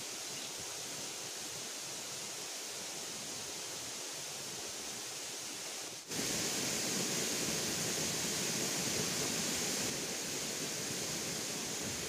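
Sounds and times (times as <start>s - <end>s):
river water over waterfall: 0.0s - 12.0s.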